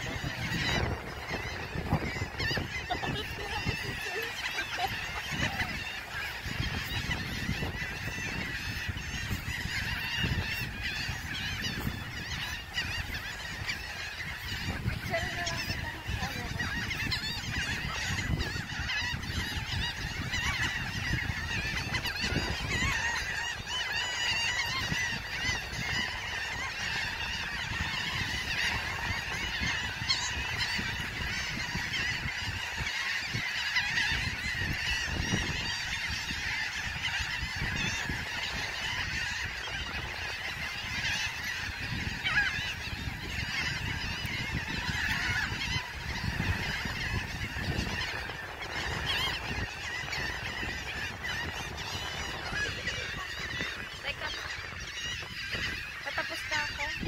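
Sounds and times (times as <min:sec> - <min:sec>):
gulls calling: 0:00.0 - 0:57.0
wind rumble on microphone: 0:00.0 - 0:57.0.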